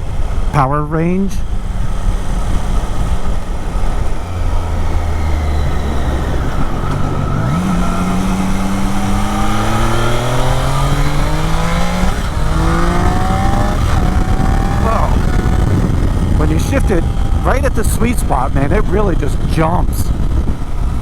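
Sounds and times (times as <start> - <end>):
motorcycle engine accelerating: 0.0 - 0.7, 1.3 - 21.0
wind noise: 0.0 - 21.0.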